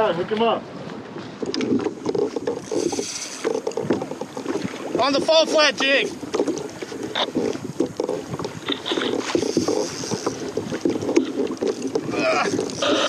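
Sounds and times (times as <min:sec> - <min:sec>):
water slapping against kayak hull: 0:00.0 - 0:13.0
wind on microphone: 0:00.0 - 0:13.0.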